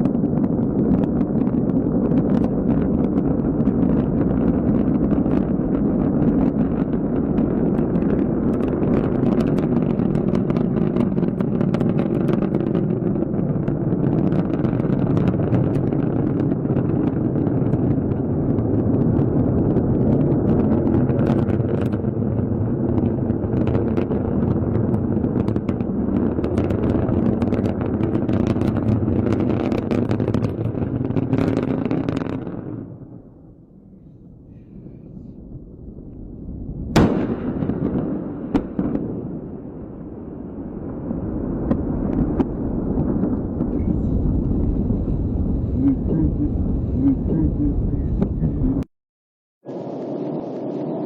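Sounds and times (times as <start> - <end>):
rocket engines rumbling with crackle: 0.0 - 48.9, 49.6 - 51.0.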